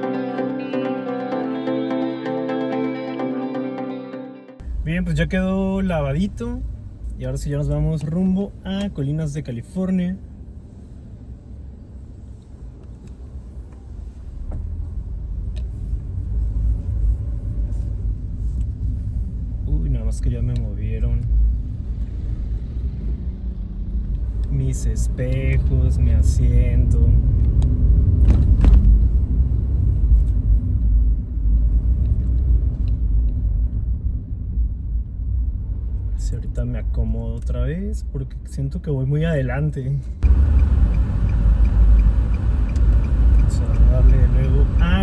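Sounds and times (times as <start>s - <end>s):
car engine and road rumble: 4.5s - 45.0s.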